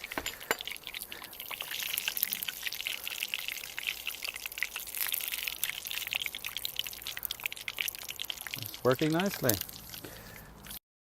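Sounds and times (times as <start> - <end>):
hot fat sizzling and crackling: 0.0 - 10.8.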